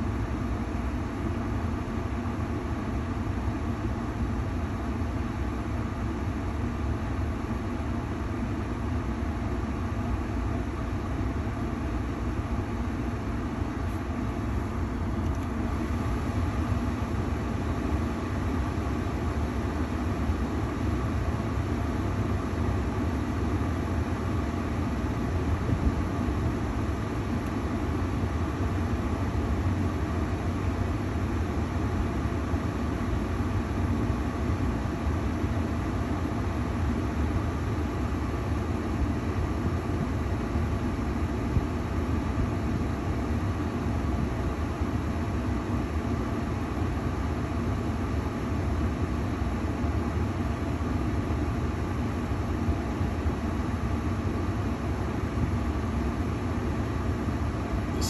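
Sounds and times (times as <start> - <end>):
air rushing from vents: 0.0 - 58.0
low blower hum: 0.0 - 58.0.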